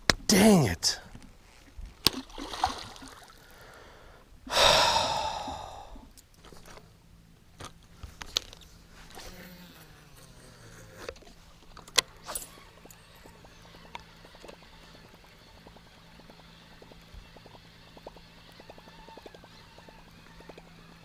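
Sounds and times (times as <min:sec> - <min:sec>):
steady low hum: 0:01.8 - 0:21.0.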